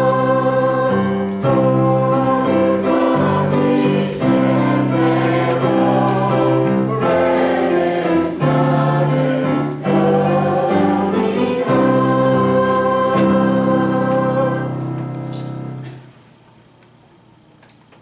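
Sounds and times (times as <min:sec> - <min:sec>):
choir singing: 0:00.0 - 0:15.9.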